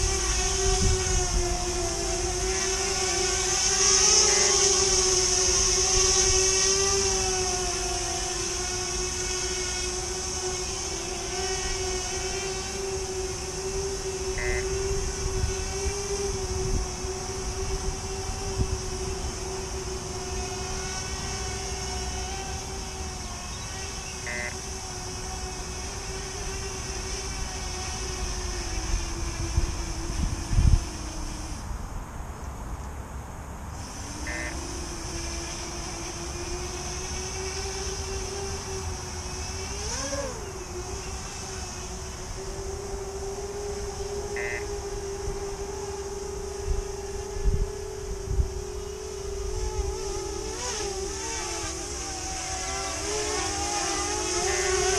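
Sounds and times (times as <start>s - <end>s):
wind rumble on microphone: 0.0s - 32.8s, 33.4s - 54.9s
drone propellers whining: 0.0s - 54.9s.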